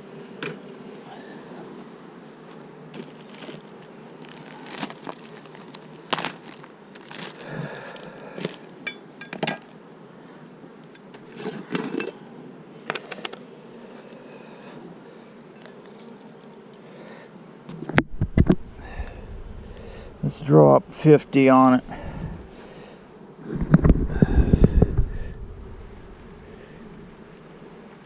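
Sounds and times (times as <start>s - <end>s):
honeybees humming: 0.0s - 28.0s.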